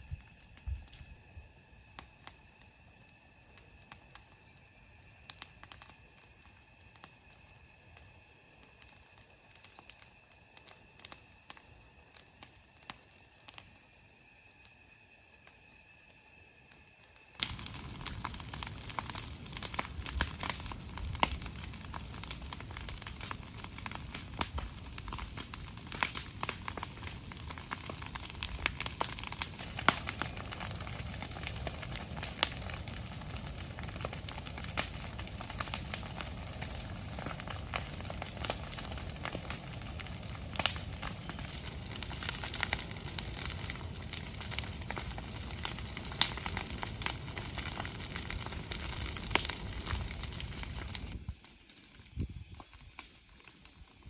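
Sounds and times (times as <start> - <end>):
sizzling with crackles and pops: 0.0 - 54.0.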